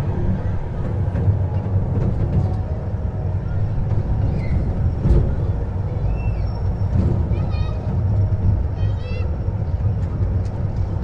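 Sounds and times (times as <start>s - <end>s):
ride-on train engine rumble: 0.0s - 11.0s.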